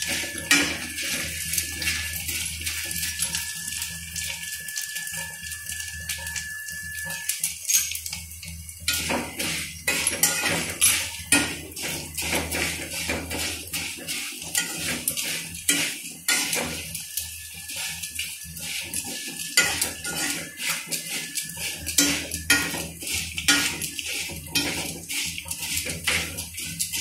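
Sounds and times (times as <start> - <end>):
skimmer scraping metal pan: 0.0 - 8.2, 8.8 - 27.0.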